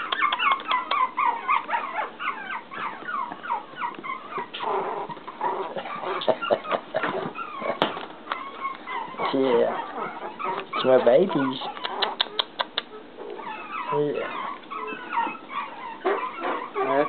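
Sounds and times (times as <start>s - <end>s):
puppies squeaking and whimpering: 0.0s - 17.0s.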